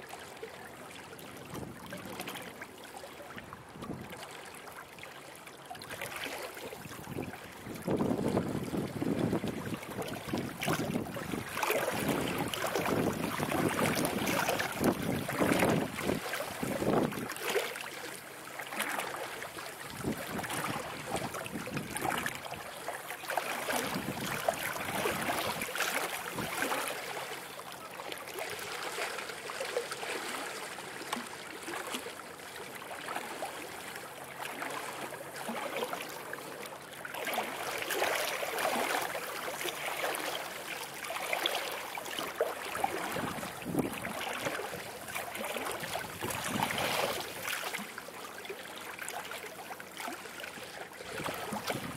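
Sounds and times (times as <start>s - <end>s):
river water lapping at shore: 0.0s - 51.9s.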